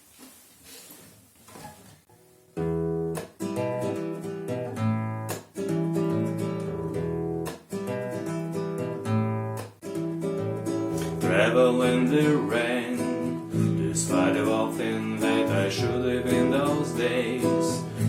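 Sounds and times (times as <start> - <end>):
acoustic guitar strumming chords: 2.2 - 18.0.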